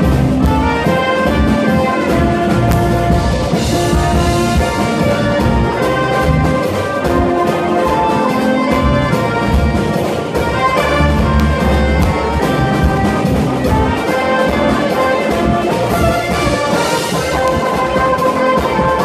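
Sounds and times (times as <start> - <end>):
brass band playing melody: 0.0 - 19.0
fast bass drum and percussion: 0.0 - 19.0.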